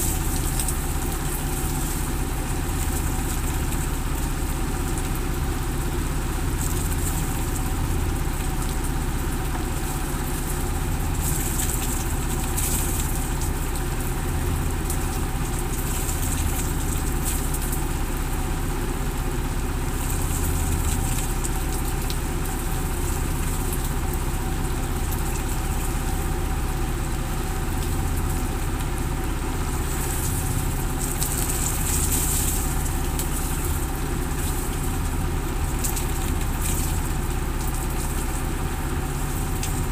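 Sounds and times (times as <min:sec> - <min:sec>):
boat engine idling: 0:00.0 - 0:39.9
rain hiss: 0:00.0 - 0:39.9.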